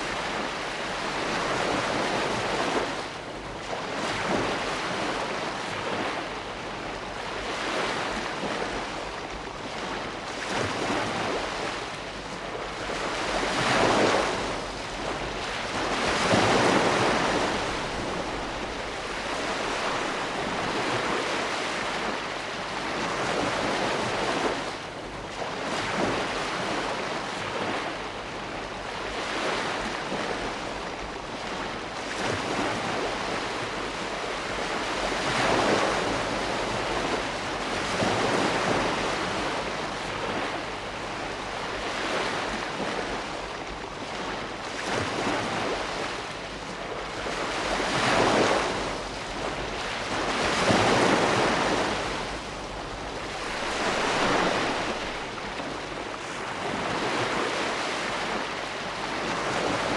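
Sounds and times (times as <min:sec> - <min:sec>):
ocean surf: 0:00.0 - 0:59.9.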